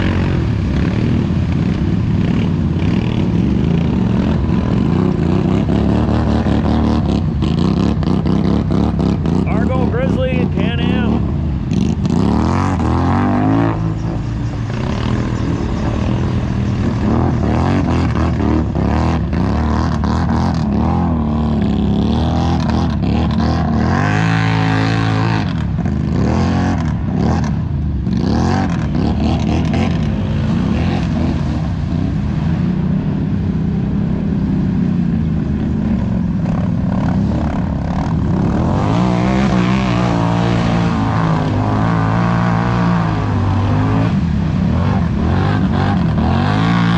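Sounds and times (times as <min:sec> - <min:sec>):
atv engines revving: 0:00.0 - 0:46.9.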